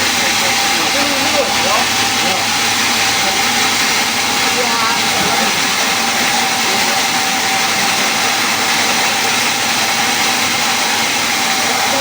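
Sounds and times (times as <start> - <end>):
woodworking machine whining: 0.0 - 12.0.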